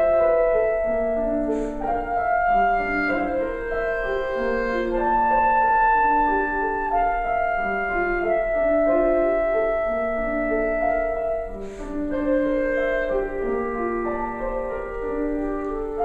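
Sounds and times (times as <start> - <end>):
clarinet: 0.0 - 16.0
piano: 0.0 - 16.0.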